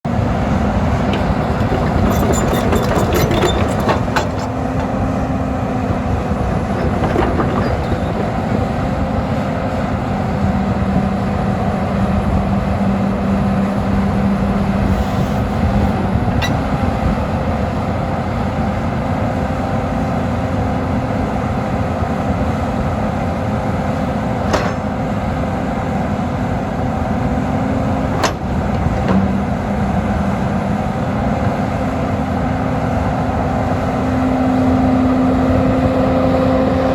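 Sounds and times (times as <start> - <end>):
excavator diesel engine humming: 0.1 - 36.9.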